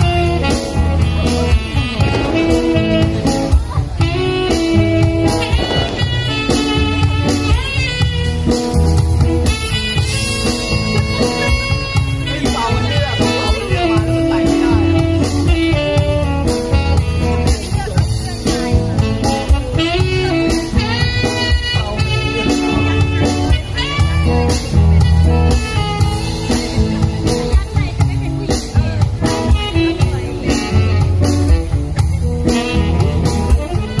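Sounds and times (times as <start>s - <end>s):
bass line: 0.0s - 34.0s
guitar: 0.0s - 34.0s
live band playing amplified music: 0.0s - 34.0s
steady drum beat: 0.0s - 34.0s.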